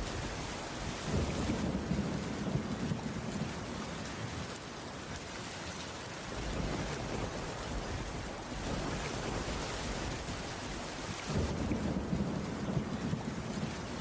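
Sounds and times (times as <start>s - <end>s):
rain on a wooden roof: 0.0s - 14.0s.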